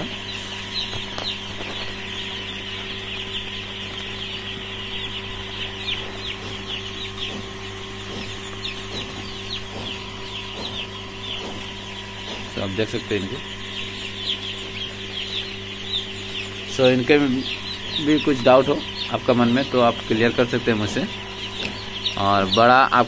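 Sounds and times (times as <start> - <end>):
chicks peeping: 0.0 - 23.0
low hum: 0.0 - 23.0.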